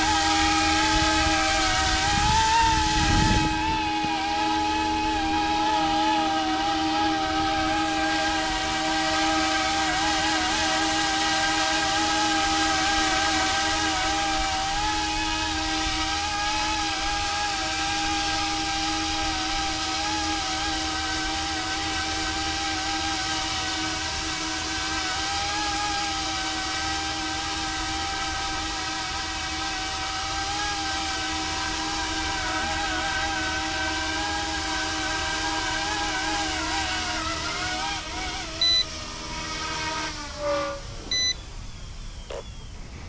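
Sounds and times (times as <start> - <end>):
rc helicopter rotors whining: 0.0 - 43.0.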